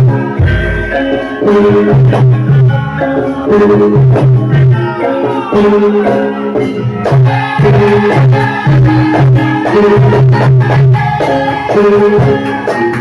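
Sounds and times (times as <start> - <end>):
percussion: 0.0 - 13.0
traditional melodic music: 0.0 - 13.0.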